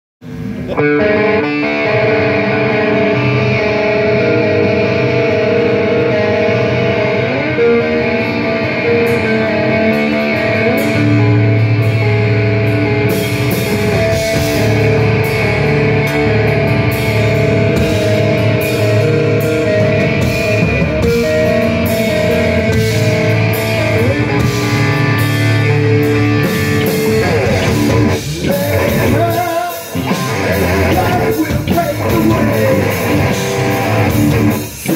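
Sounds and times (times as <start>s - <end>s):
distorted electric guitar riff: 0.2s - 34.9s
rock drums with cymbals: 2.0s - 34.9s.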